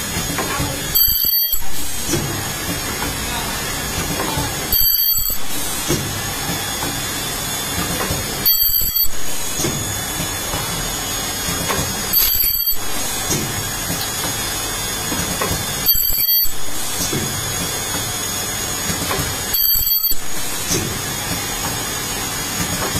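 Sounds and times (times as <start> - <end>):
background machine noise: 0.0 - 22.9
ultrasonic welder high-pitched whine: 0.0 - 22.9.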